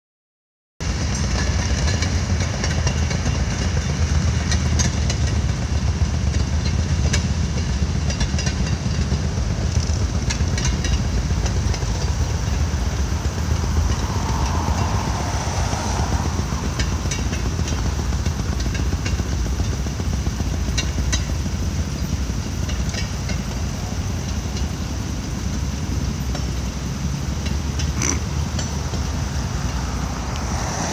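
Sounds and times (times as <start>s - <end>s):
railroad cars rumbling: 0.8s - 30.9s
wheels clicking over rail joints: 0.8s - 30.9s.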